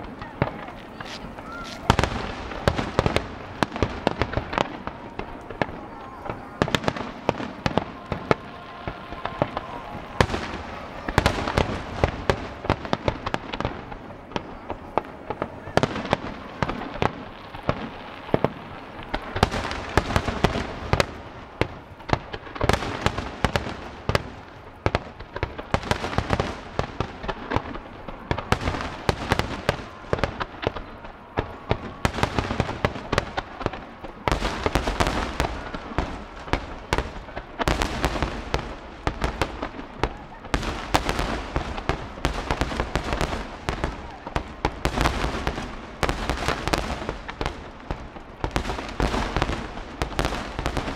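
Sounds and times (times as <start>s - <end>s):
deep fireworks booms: 0.0s - 50.9s
fireworks bursts and crackling: 0.0s - 50.9s.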